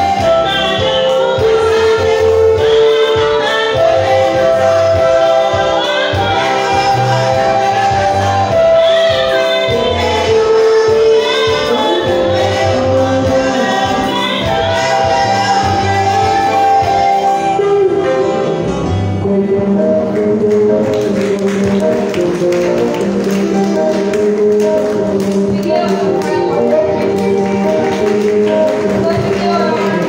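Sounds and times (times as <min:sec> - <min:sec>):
group singing gospel: 0:00.0 - 0:18.0, 0:19.2 - 0:30.0
electric keyboard chords: 0:00.0 - 0:30.0.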